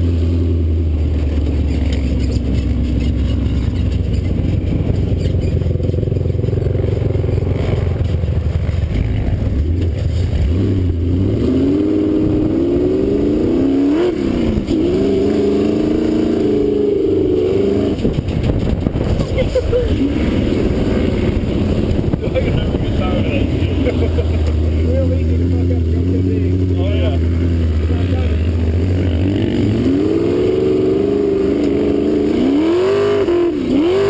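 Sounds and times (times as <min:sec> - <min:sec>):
dune buggy engine revving: 0:00.0 - 0:34.0.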